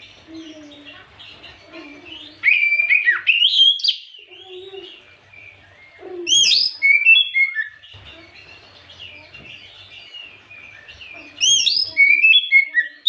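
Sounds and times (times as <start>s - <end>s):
bird singing whistled notes: 2.2s - 13.0s.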